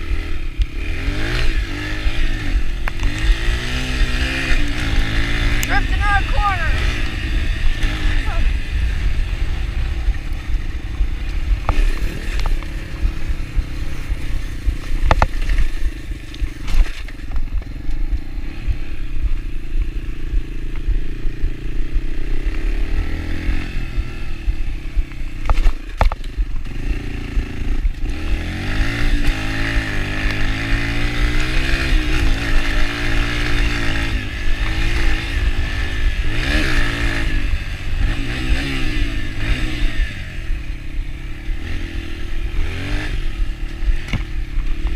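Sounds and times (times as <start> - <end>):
dirt bike engine revving: 0.0 - 44.9
wind rumble: 0.0 - 44.9.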